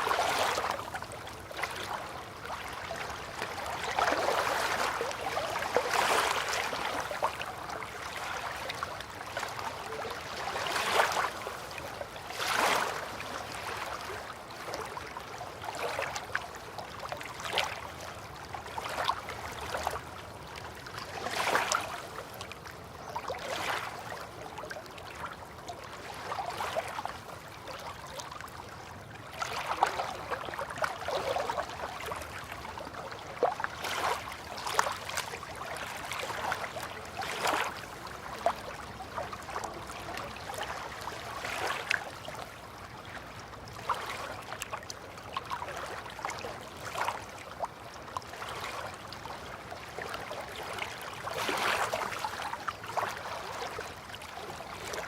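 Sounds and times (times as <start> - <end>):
river water lapping at bank: 0.0 - 55.0.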